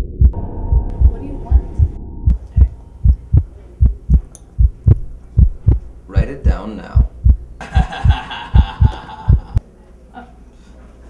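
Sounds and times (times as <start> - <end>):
heartbeat thumps: 0.0 - 9.6
low steady hum: 0.0 - 10.3.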